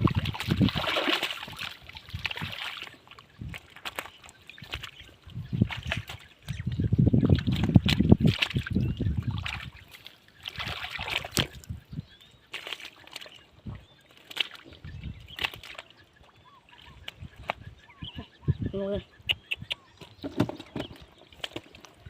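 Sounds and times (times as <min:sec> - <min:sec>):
water splashes and drips: 0:00.0 - 0:11.8, 0:12.4 - 0:17.8, 0:20.3 - 0:22.0
hands churning muddy water: 0:00.0 - 0:17.8.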